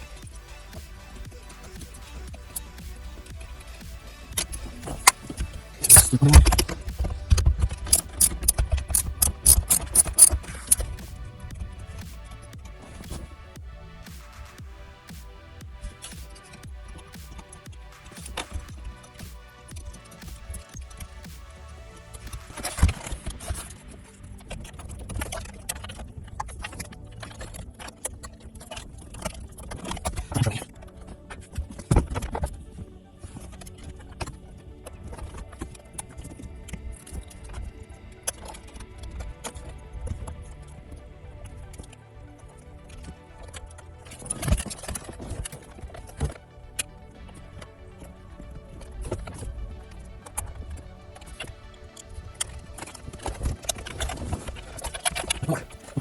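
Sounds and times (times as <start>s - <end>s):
faint background music: 0.0s - 56.0s.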